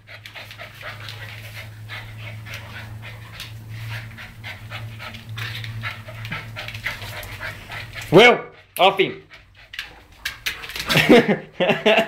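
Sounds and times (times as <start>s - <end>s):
dogs panting rapidly: 0.0s - 12.0s
steady low hum: 0.0s - 12.0s.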